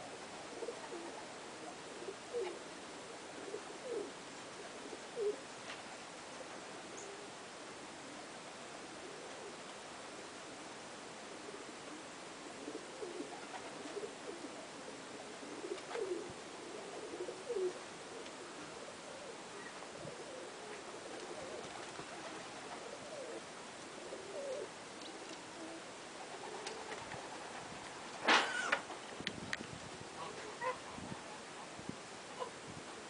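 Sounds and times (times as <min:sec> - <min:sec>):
pigeons cooing: 0:00.0 - 0:05.5, 0:06.4 - 0:09.8, 0:10.5 - 0:29.0, 0:30.1 - 0:33.0
steady hiss: 0:00.0 - 0:33.0.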